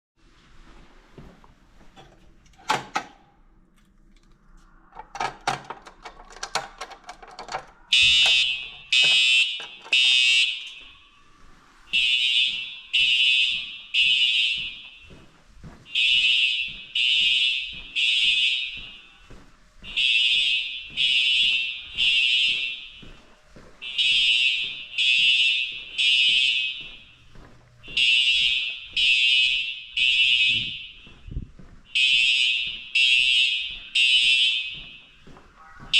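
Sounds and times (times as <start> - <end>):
fire alarm beeping: 4.8 - 35.9.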